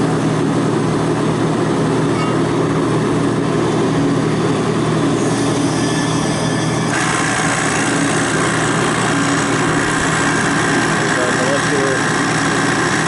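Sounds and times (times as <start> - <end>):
small compressor running with hiss: 0.0 - 13.0.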